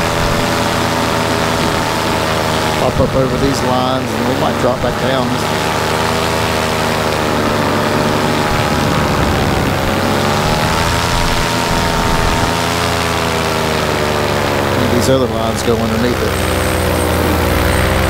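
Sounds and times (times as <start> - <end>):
paramotor engine and propeller: 0.0 - 18.0.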